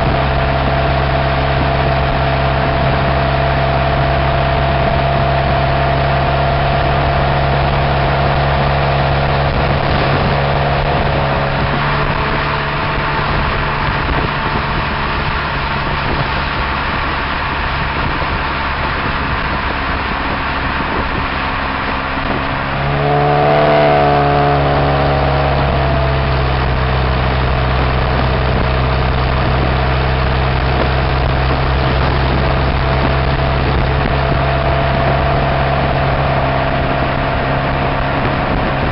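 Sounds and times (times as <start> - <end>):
car exhaust running: 0.0 - 38.9
engine revving: 0.0 - 38.9.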